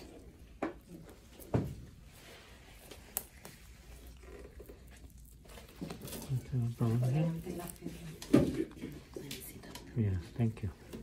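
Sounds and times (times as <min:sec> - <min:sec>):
bandage being wrapped: 0:00.0 - 0:11.0.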